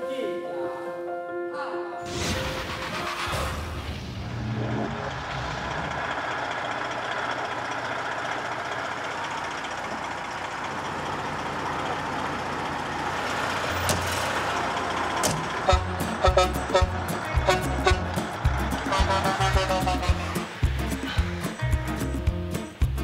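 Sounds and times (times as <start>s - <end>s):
diesel engine running: 2.4s - 23.0s.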